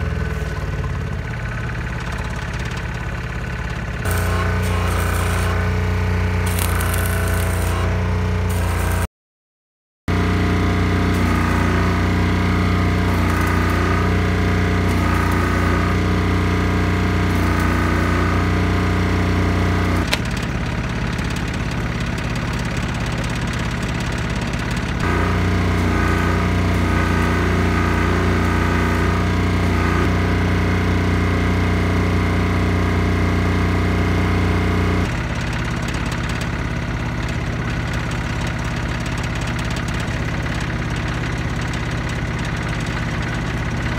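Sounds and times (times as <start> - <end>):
welding machine humming: 0.0 - 9.1, 10.1 - 43.9.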